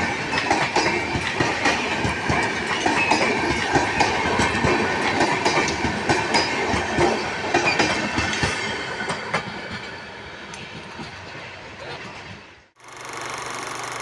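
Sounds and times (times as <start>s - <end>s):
train wheels clattering on rails: 0.0s - 12.5s.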